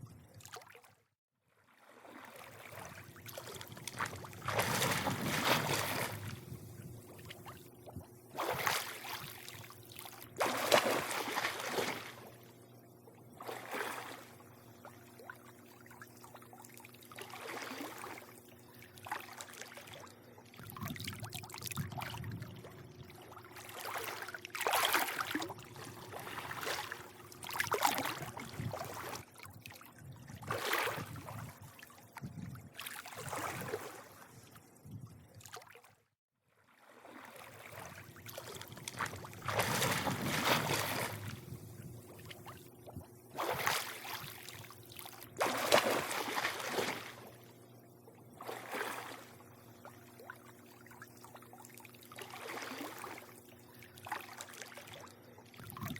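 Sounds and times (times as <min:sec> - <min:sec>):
pool water lapping and sloshing: 0:00.0 - 0:55.9
faint low hum: 0:02.7 - 0:35.5, 0:37.3 - 0:55.9.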